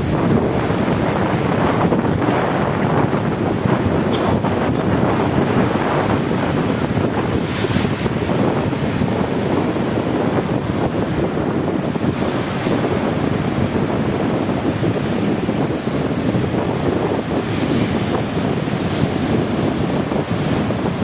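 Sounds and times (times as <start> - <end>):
sea waves washing: 0.0 - 21.0
wind buffeting microphone: 0.0 - 21.0.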